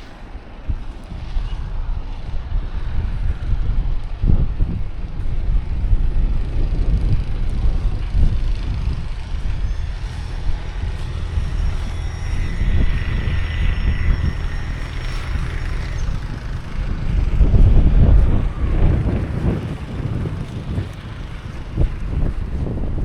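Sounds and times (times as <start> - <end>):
vehicle passing with whine: 0.0 - 23.0
wind buffeting microphone: 0.0 - 23.0.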